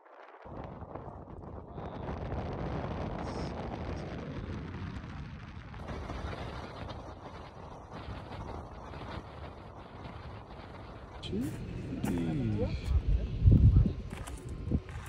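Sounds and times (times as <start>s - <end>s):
wind buffeting microphone: 0.4s - 15.0s.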